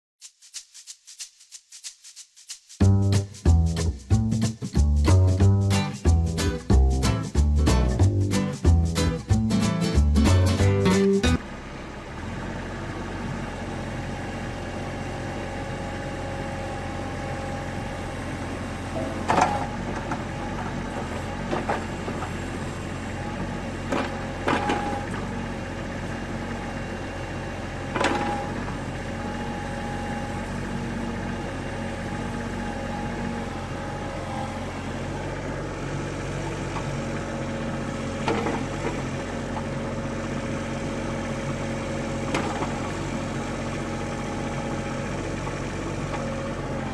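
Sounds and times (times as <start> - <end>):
excavator diesel engine running: 2.8 - 46.9.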